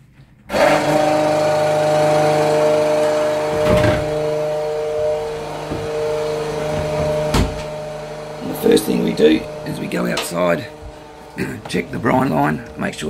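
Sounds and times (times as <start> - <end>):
electric pump motor humming: 0.5 - 13.0.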